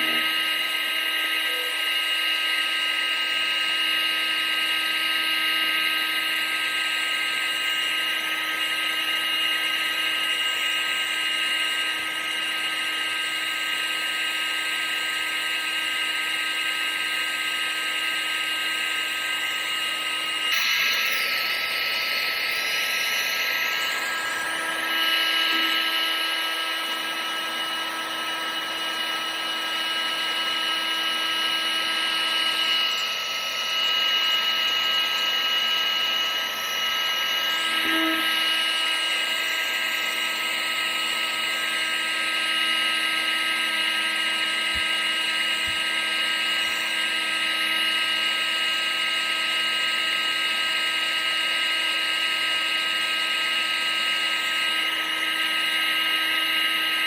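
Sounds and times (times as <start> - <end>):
vacuum cleaner motor running: 0.0 - 57.0.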